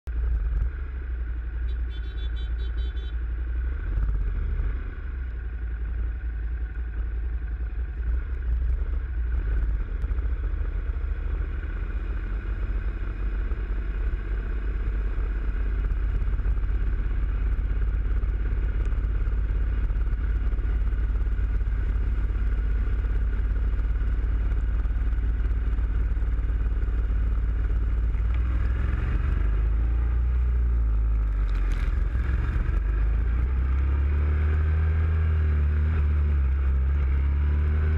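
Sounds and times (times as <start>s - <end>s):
motorcycle engine: 0.1s - 37.9s.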